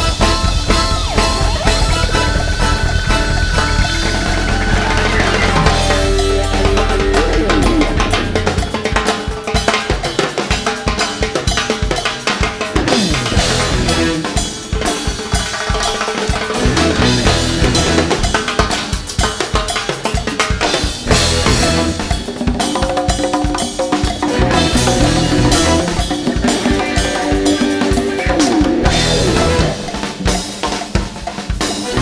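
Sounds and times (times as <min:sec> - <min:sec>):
drums and hand percussion: 0:00.0 - 0:32.0
rock band playing live: 0:00.0 - 0:32.0.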